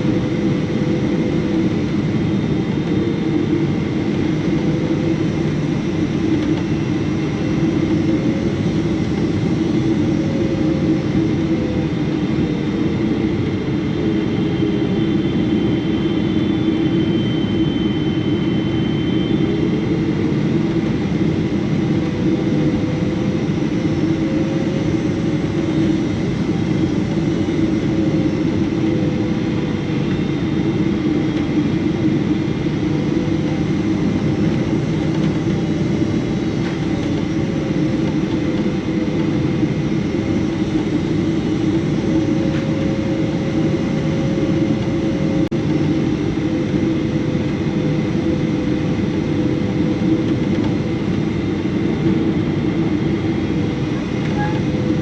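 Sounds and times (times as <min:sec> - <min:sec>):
faint wavering whine: 0:00.0 - 0:55.0
jet engine and airflow rumble: 0:00.0 - 0:55.0.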